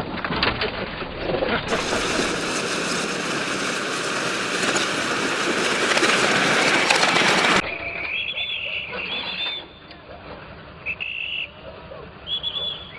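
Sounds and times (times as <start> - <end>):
train rattling on rails: 0.7 - 12.7.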